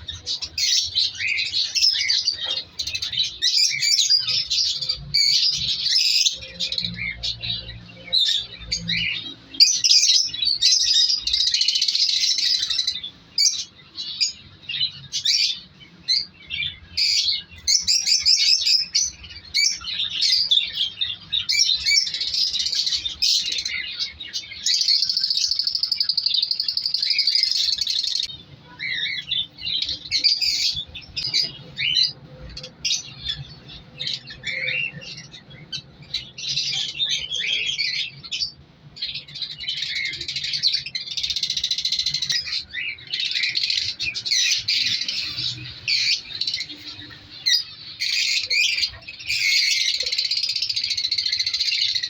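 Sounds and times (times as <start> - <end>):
lovebirds chirping and chattering: 0.0 - 52.0.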